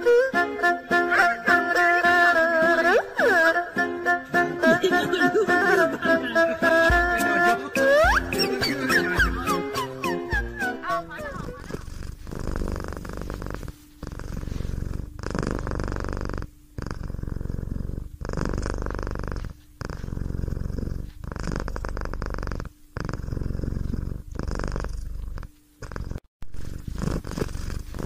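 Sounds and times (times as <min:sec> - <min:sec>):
cat purring: 0:04.6 - 0:28.0.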